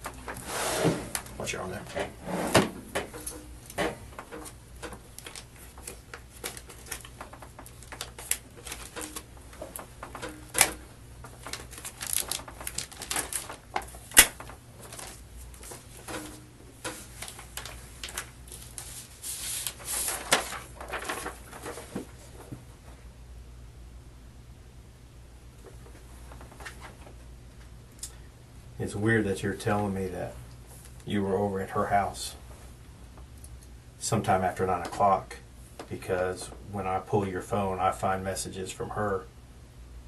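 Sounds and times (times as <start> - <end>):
low room hum: 0.0 - 40.0.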